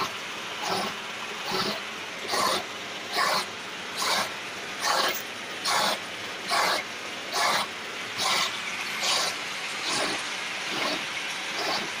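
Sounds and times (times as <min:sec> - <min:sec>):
boring bar scraping metal: 0:00.0 - 0:12.0
machine hiss: 0:00.0 - 0:12.0.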